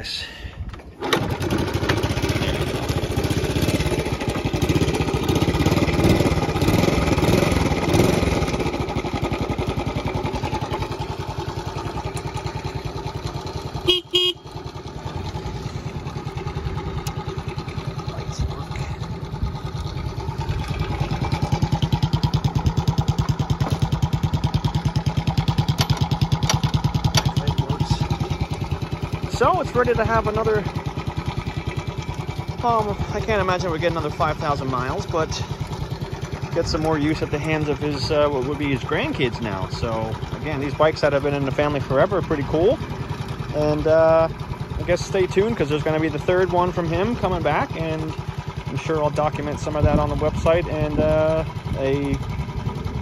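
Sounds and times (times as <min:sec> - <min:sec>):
small motorcycle engine idling: 0:00.0 - 0:53.0.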